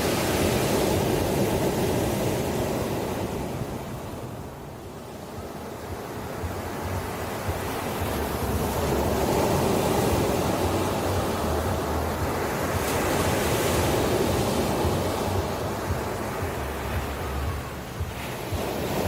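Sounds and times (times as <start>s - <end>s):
ocean waves breaking on shore: 0.0s - 19.0s
wind rumble on microphone: 0.0s - 19.0s.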